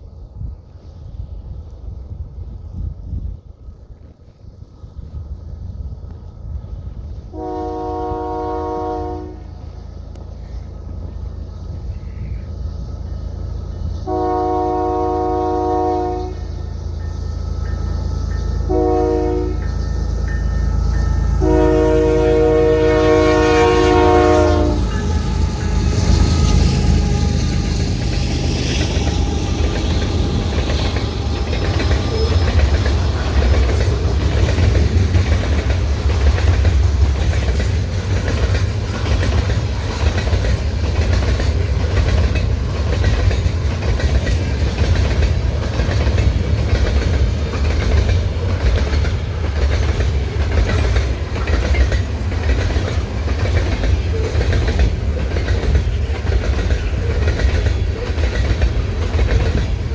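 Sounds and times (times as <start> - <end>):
freight train rumble: 0.0 - 59.9
train wheels clicking over rail joints: 9.5 - 59.9.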